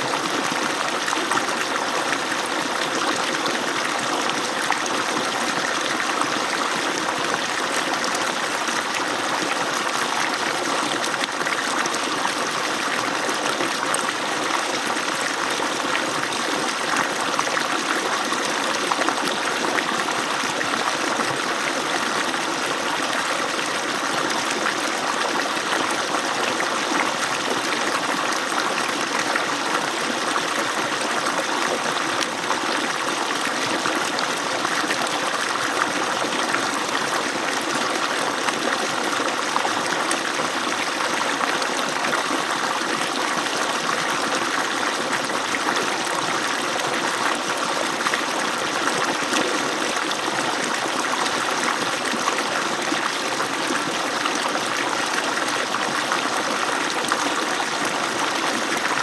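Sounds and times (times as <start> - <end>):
water pouring from pipe: 0.1 - 59.0.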